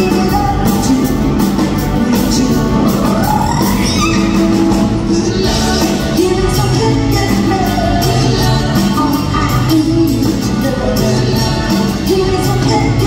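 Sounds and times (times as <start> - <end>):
pop-rock band playing: 0.0 - 13.0
woman singing: 0.0 - 13.0.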